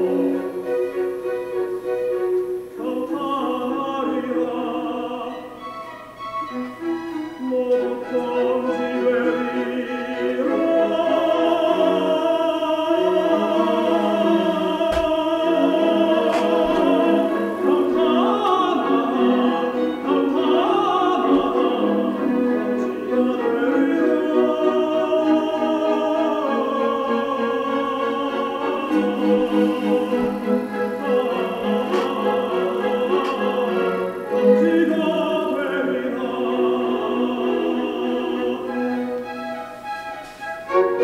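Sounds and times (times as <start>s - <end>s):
classical instrumental accompaniment: 0.0s - 41.0s
operatic singing voice: 2.7s - 5.7s, 7.4s - 39.2s.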